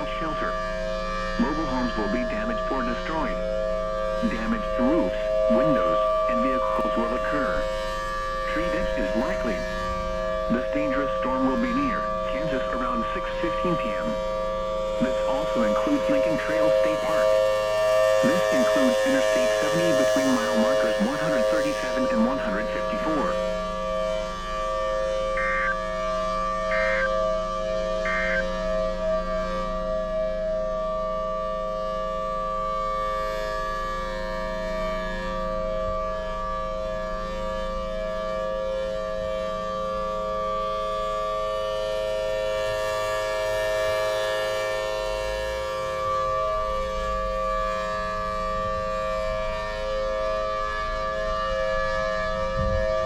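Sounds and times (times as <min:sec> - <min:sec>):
outdoor warning siren: 0:00.0 - 0:53.0.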